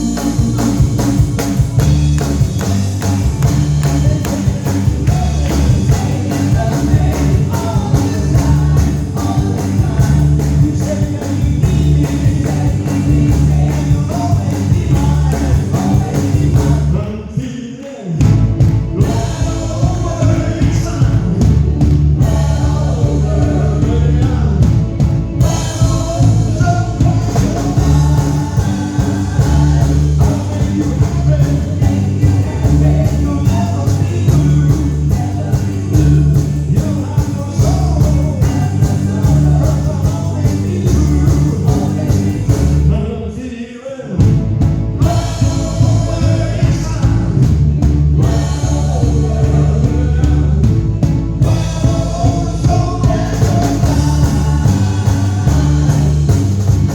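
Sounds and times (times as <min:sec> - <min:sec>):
rock and roll song with singing: 0:00.0 - 0:56.9.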